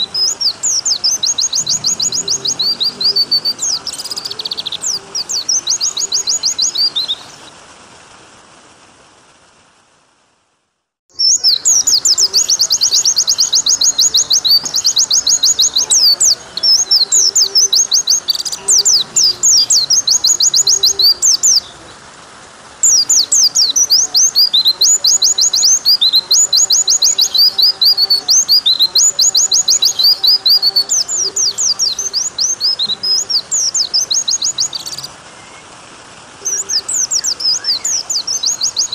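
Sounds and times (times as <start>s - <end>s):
bird trilling song: 0.0s - 7.5s, 11.1s - 22.0s, 22.8s - 35.7s, 36.4s - 38.9s
flowing water: 0.0s - 38.9s.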